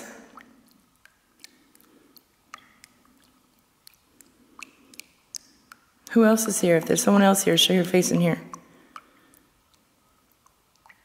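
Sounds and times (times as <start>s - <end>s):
small faint clicks and ticks: 0.3s - 7.5s, 8.4s - 11.0s.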